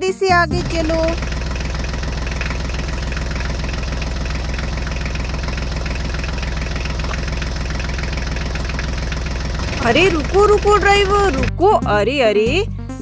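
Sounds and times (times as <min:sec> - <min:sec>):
tractor engine chugging: 0:00.3 - 0:12.7.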